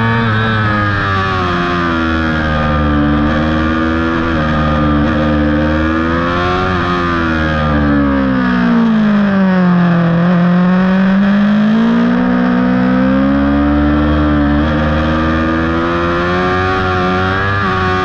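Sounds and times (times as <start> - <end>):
motorcycle engine at speed: 0.0 - 18.0.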